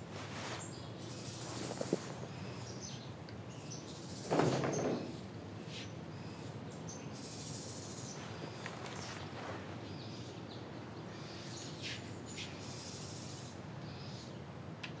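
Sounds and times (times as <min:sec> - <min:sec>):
birds chirping: 0:00.5 - 0:14.5.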